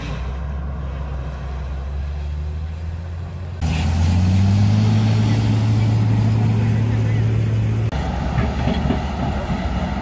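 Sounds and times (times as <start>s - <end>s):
heavy vehicle engine hum: 0.0s - 10.0s.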